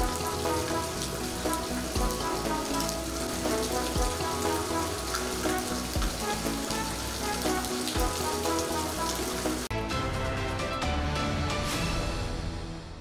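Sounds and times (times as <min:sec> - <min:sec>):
rain on wet pavement: 0:00.0 - 0:10.8
background music: 0:00.0 - 0:13.0.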